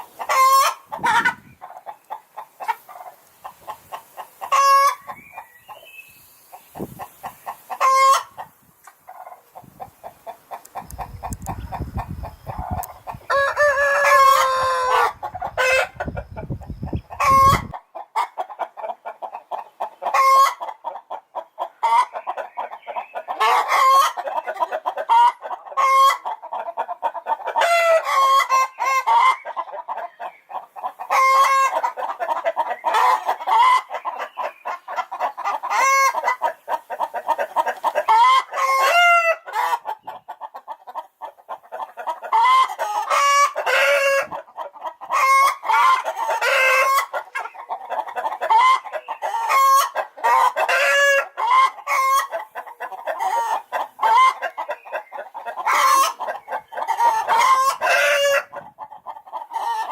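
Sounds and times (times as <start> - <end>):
chickens clucking and cackling: 0.0 - 59.9.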